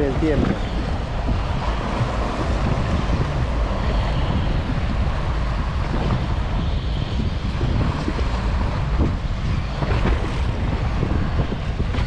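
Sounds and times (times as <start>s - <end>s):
choppy water washing: 0.0s - 12.0s
wind buffeting microphone: 0.0s - 12.0s.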